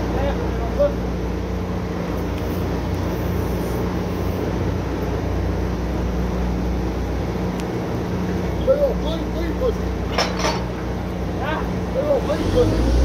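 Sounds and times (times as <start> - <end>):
drilling rig engine hum: 0.0 - 13.0.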